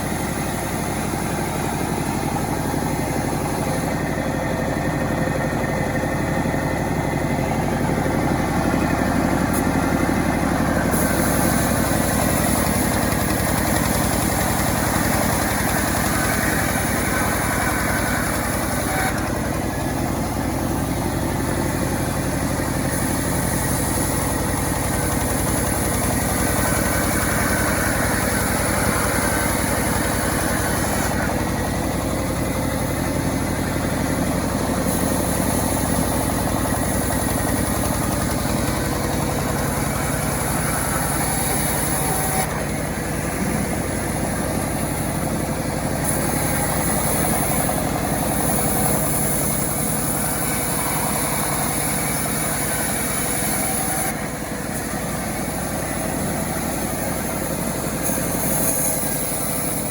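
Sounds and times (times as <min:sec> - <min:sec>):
chainsaw engine running: 0:00.0 - 0:59.9.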